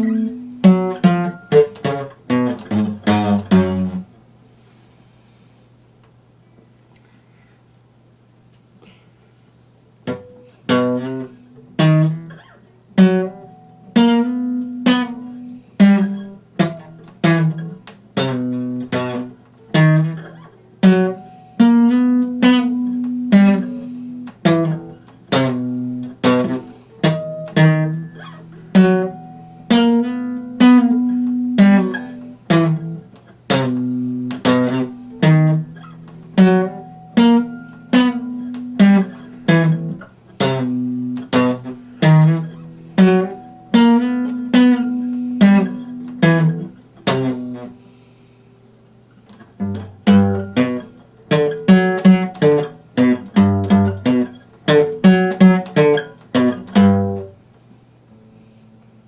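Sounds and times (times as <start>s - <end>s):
acoustic guitar strumming chords: 0.0s - 4.3s, 10.0s - 57.5s.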